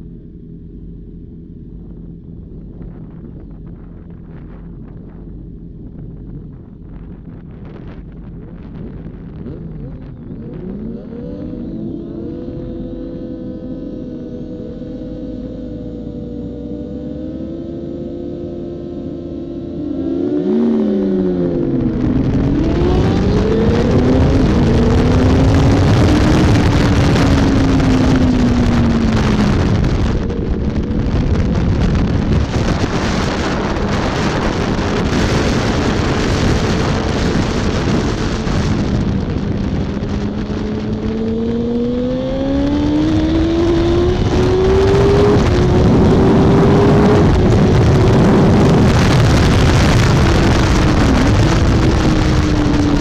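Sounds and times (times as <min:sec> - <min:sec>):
motorcycle engine revving: 0:00.0 - 0:53.0
wind rush: 0:01.8 - 0:17.0, 0:18.8 - 0:53.0.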